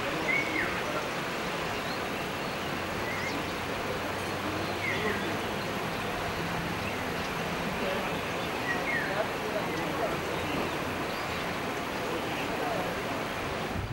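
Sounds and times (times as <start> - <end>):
steady rushing noise: 0.0 - 13.9.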